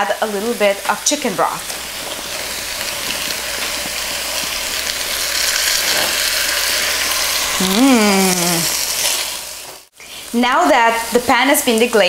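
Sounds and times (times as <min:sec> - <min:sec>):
wine sizzling in hot pot: 0:00.0 - 0:12.0.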